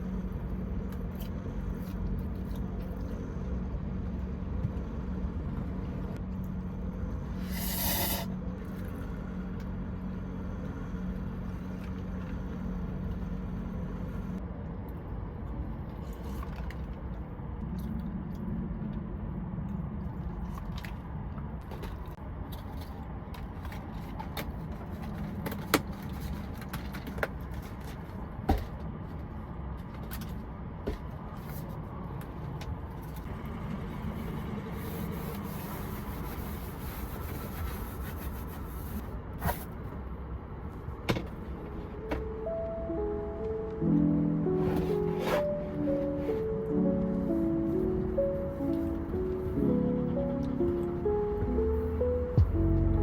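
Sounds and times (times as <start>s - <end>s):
truck rumble inside cab: 0.0s - 53.0s.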